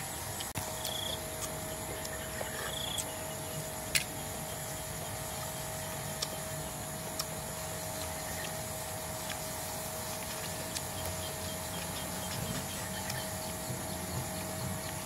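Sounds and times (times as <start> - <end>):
constant hum: 0.0 - 15.0
insect drone: 0.0 - 15.0.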